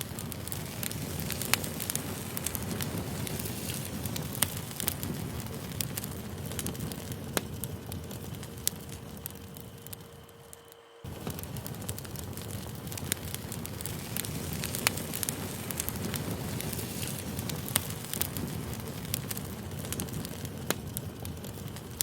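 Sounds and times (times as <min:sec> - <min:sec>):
burning wood crackling and popping: 0:00.0 - 0:22.0
campfire flames rushing: 0:00.0 - 0:22.0.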